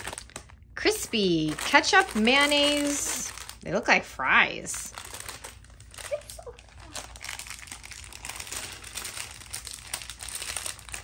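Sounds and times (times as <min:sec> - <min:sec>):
foil snack bag crinkling: 0:00.0 - 0:11.0.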